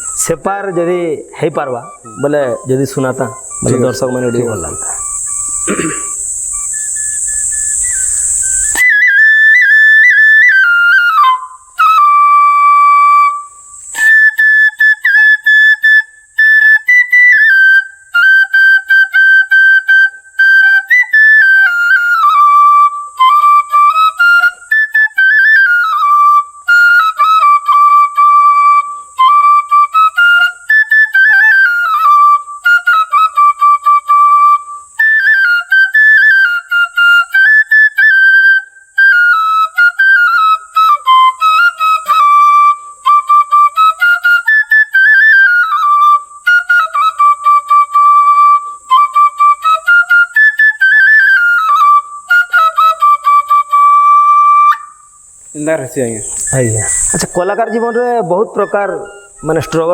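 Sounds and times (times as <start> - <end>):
bamboo flute solo melody: 0.0 - 55.6, 56.2 - 59.9.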